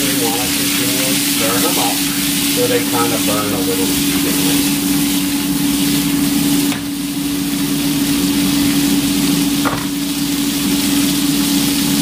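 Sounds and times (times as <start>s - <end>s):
beans sizzling in oil: 0.0s - 12.0s.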